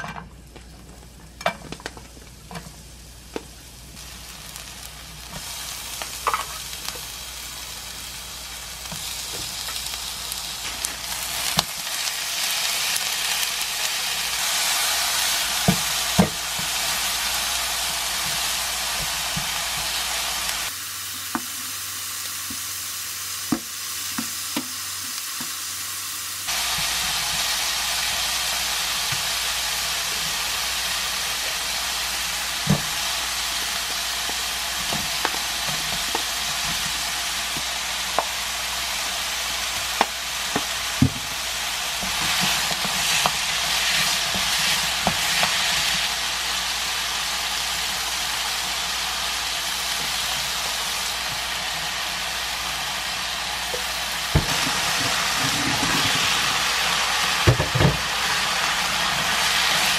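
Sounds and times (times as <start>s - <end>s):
pork sizzling in oil in a pan: 0.0s - 59.9s.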